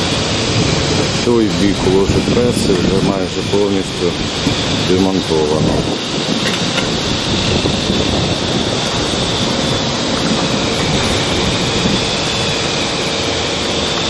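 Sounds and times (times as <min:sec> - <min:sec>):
machinery drone: 0:00.0 - 0:14.0
thin high whine: 0:00.0 - 0:14.0.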